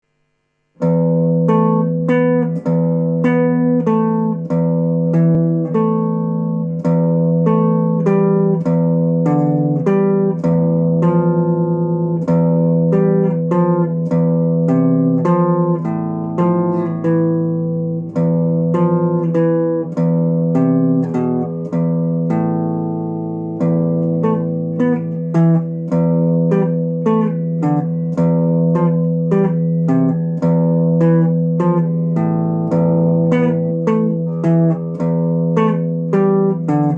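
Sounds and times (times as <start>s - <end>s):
plucked solo guitar: 0.8s - 36.9s.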